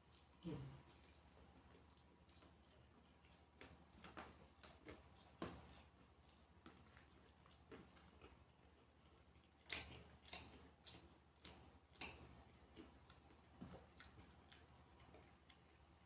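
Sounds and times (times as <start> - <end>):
chewing with crisp crunches: 0.0 - 16.0.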